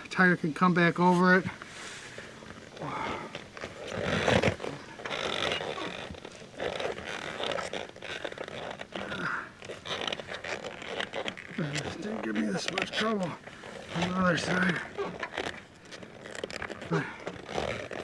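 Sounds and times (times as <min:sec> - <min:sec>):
rubber scraping and rubbing: 0:00.8 - 0:18.0.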